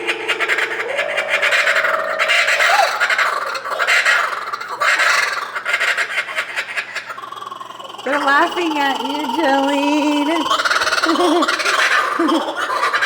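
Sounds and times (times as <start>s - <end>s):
kookaburras cackling chorus: 0.0s - 13.0s.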